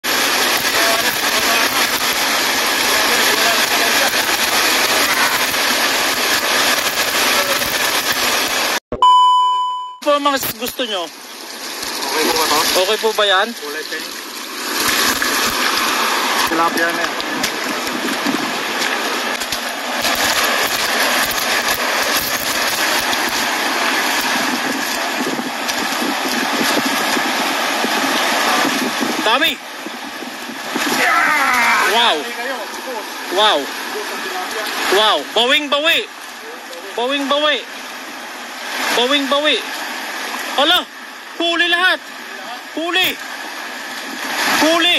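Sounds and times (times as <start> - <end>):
water splashing from net: 0.0 - 8.8, 10.5 - 41.4, 43.0 - 44.9
river rushing: 0.1 - 8.8, 10.1 - 44.9.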